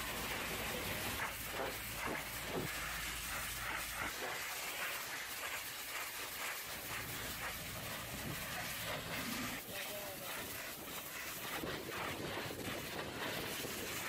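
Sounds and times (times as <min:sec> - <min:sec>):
water jet hissing on metal: 0:00.0 - 0:14.0.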